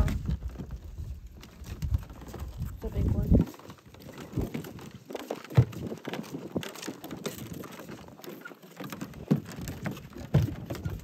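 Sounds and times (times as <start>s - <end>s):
footsteps on wooden planks: 0.0s - 11.0s.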